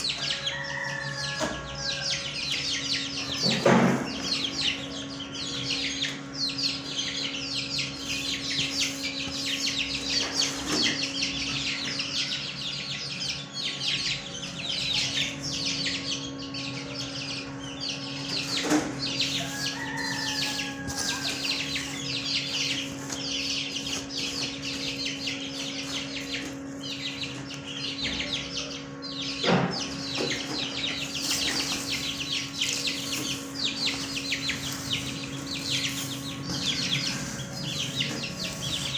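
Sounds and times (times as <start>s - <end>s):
cage birds chirping: 0.0s - 38.9s.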